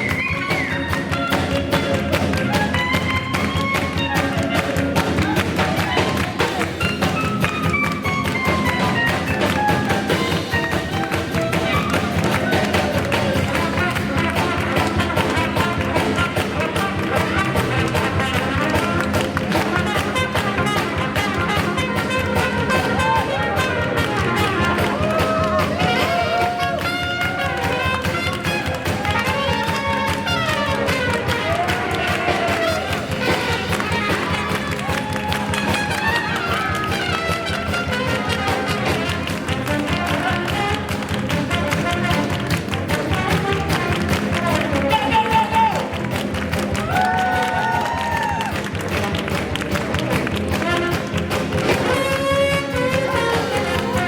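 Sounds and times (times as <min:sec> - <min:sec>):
percussion strokes: 0:00.0 - 0:54.0
swing band playing: 0:00.0 - 0:54.0.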